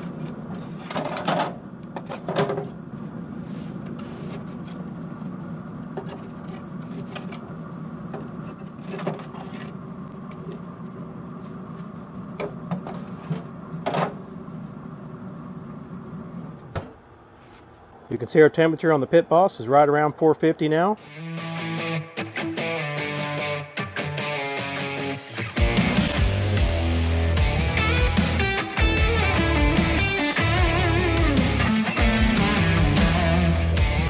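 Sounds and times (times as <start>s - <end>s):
grill fan hum: 0.0s - 22.0s, 25.2s - 34.0s.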